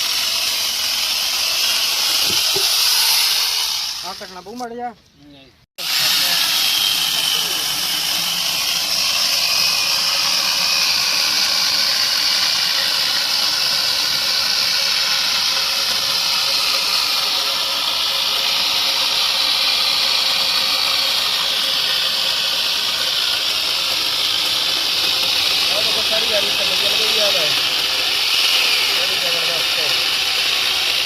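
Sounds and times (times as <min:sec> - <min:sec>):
chainsaw attachment cutting wood: 0:00.0 - 0:04.7, 0:05.8 - 0:31.0.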